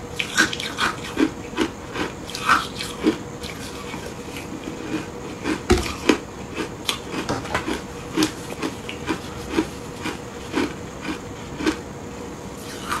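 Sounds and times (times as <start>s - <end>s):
crunchy ice chewing: 0.2s - 11.8s.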